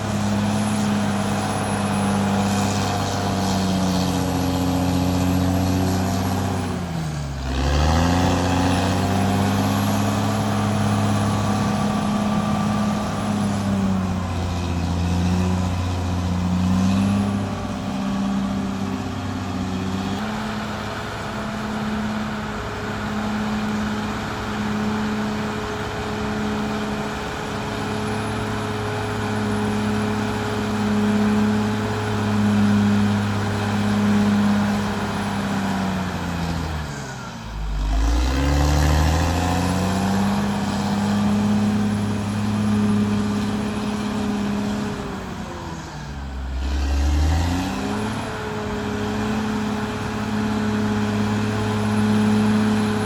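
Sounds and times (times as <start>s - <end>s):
bulldozer diesel engine: 0.0s - 53.0s.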